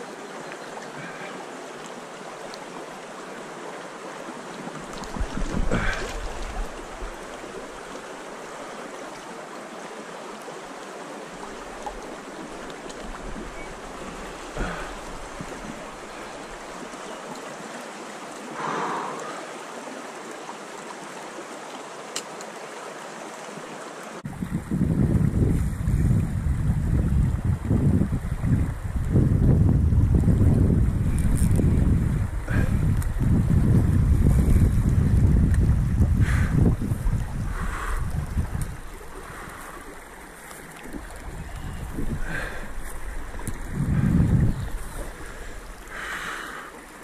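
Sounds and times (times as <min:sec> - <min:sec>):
river water running over riffle: 0:00.0 - 0:47.0.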